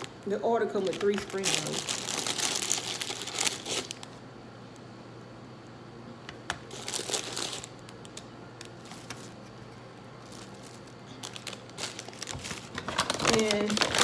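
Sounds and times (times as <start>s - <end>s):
food packaging crinkling: 0.0s - 4.2s, 6.5s - 14.0s
steady low hum: 0.0s - 14.0s.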